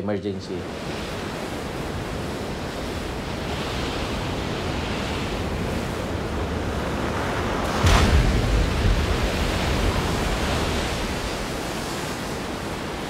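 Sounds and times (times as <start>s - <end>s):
wind: 0.0s - 13.0s
water rushing and splashing: 0.5s - 13.0s.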